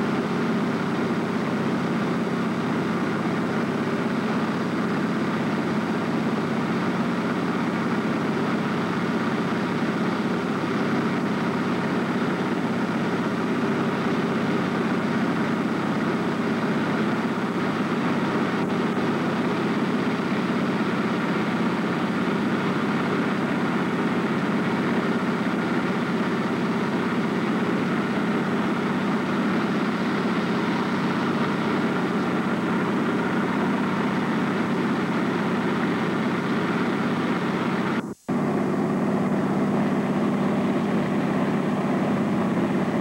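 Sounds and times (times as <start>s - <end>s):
small plane engine: 0.0s - 43.0s.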